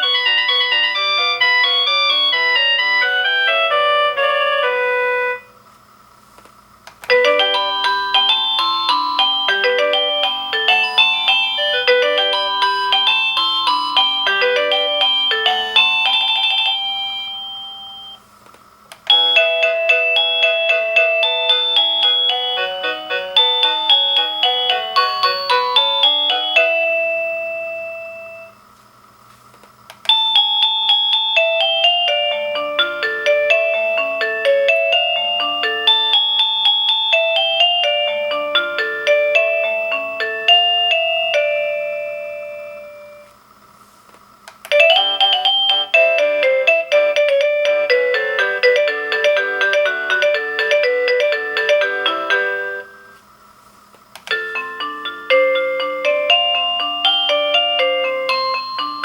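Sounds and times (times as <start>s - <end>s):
electronic doorbell chime melodies: 0.0s - 5.5s, 7.1s - 18.2s, 19.1s - 28.6s, 30.1s - 43.3s, 44.7s - 53.2s, 54.3s - 59.0s.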